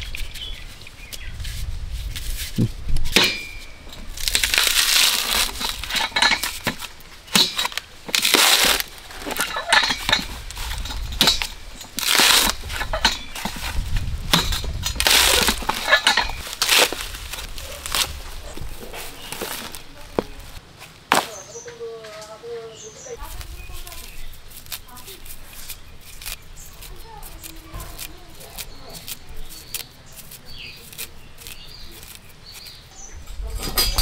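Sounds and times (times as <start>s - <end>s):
coconut husk crunching and ripping: 0.0s - 21.7s, 23.2s - 33.6s.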